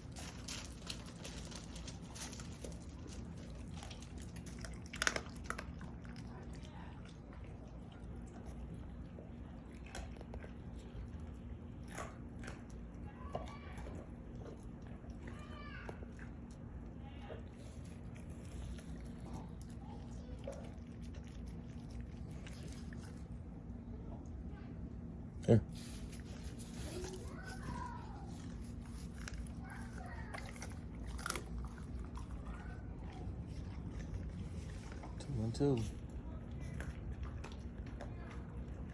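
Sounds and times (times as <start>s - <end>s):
dogs chewing and crunching: 0.0s - 38.9s.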